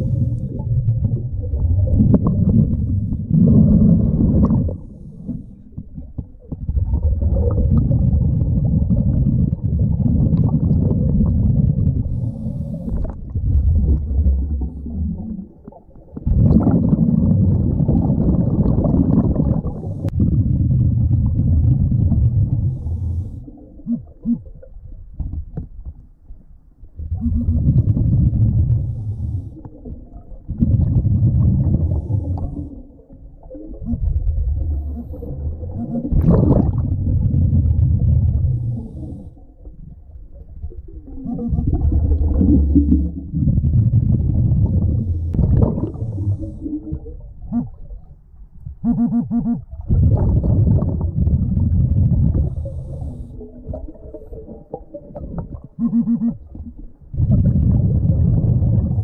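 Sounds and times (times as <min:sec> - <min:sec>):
underwater diver breathing bubbles: 0:00.0 - 0:24.7, 0:27.0 - 0:47.9, 0:48.8 - 0:59.0.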